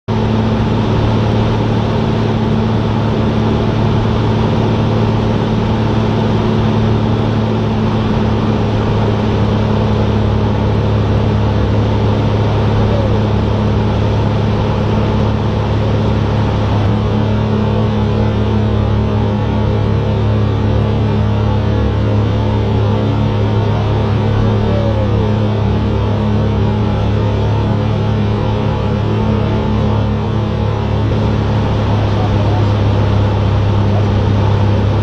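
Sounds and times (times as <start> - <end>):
airplane engine and propeller droning: 0.1 - 35.0.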